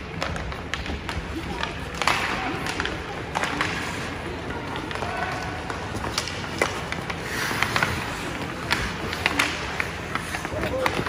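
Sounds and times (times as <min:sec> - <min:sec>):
hockey sticks clacking: 0:00.0 - 0:11.0
skate blades scraping ice: 0:00.0 - 0:11.0.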